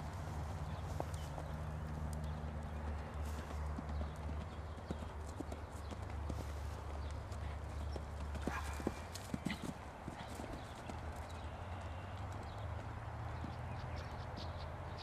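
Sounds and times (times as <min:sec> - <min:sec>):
pony hoofbeats: 0:00.0 - 0:14.5.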